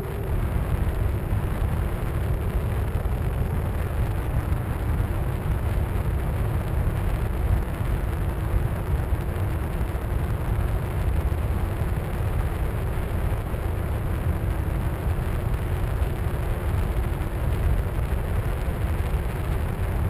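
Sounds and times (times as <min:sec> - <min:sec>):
faint steady hum: 0:00.0 - 0:20.0
wind rumble on camera: 0:00.0 - 0:20.0.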